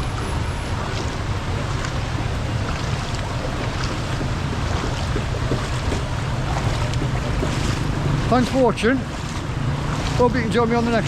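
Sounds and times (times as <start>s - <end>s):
rushing floodwater: 0.0s - 11.0s
wind buffeting microphone: 0.0s - 11.0s.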